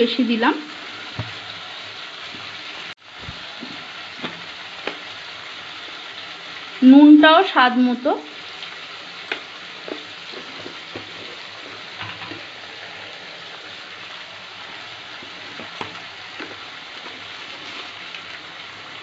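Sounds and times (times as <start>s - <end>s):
oil sizzling: 0.0s - 19.0s.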